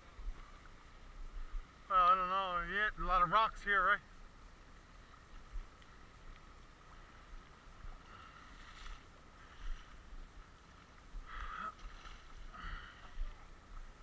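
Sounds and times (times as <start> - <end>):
moving water hiss: 0.0 - 14.0.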